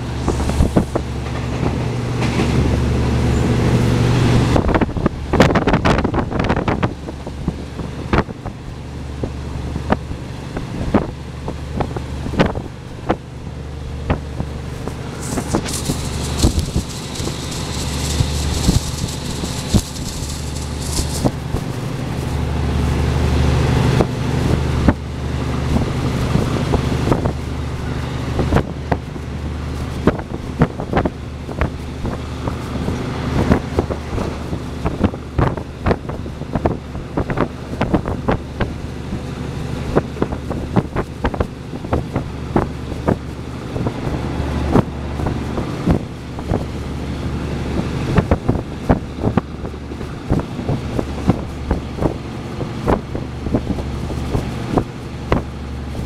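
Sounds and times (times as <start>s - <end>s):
rushing wind: 0.0s - 56.0s
train rumble: 0.0s - 56.0s
wheels clacking over rails: 0.0s - 56.0s.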